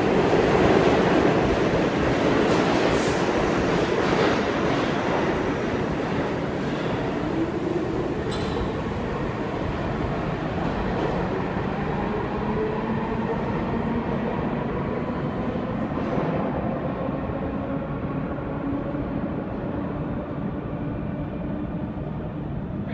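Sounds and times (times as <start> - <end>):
train wheels rumbling on rail: 0.0 - 22.7.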